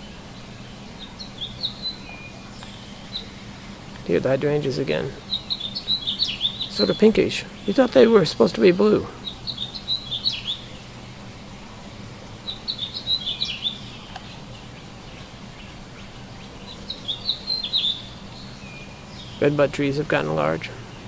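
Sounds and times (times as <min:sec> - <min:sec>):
faint low hum: 0:00.0 - 0:21.0
songbird chirping: 0:00.0 - 0:21.0.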